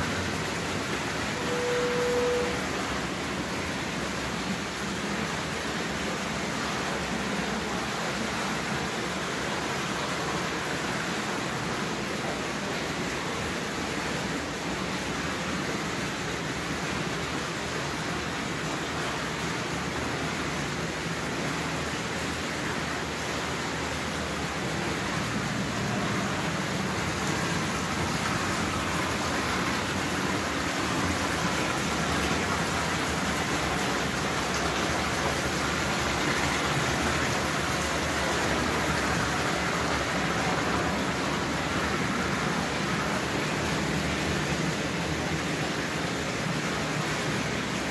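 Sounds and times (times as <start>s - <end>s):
fountain water splashing into pool: 0.0s - 47.9s.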